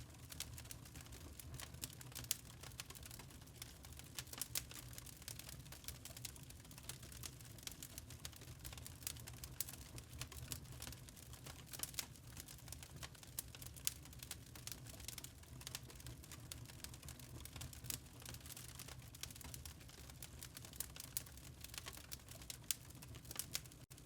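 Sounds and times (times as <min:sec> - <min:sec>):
fire crackling and popping: 0:00.0 - 0:24.0
low rumble of fire: 0:00.0 - 0:24.0.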